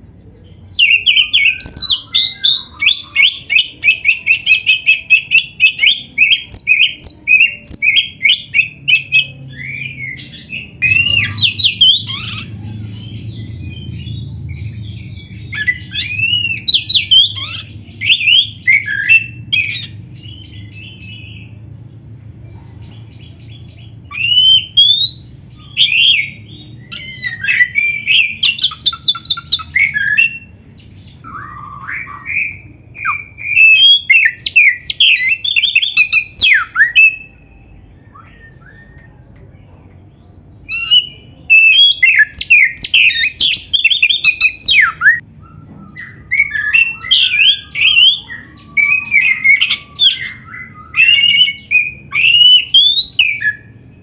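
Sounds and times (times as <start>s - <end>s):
magpie-robin singing: 0.0s - 21.6s, 22.8s - 54.0s.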